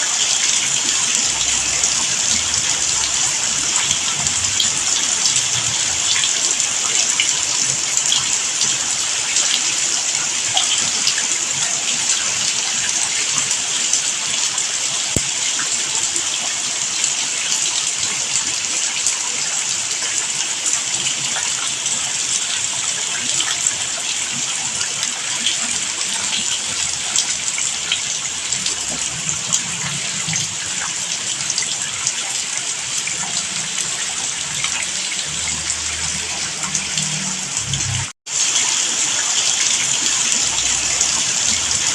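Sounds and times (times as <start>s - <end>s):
raindrops pattering: 0.0s - 41.9s
steady rain: 0.0s - 41.9s.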